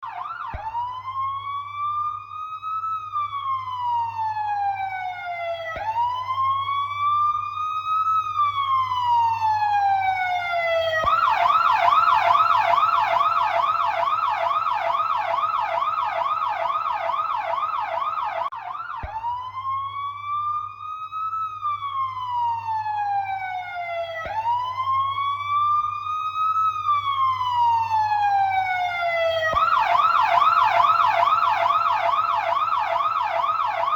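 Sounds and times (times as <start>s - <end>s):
electronic siren wailing and yelping: 0.0s - 33.9s.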